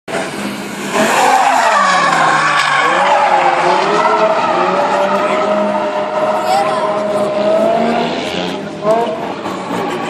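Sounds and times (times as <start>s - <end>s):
car engine at high revs: 0.1s - 10.0s.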